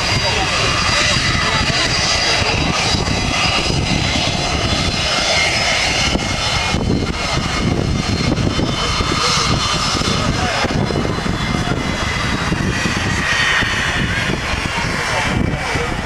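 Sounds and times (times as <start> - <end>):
high engine whine: 0.0 - 16.0
jet engines roaring: 0.0 - 16.0
wind rumbling on microphone: 0.0 - 16.0.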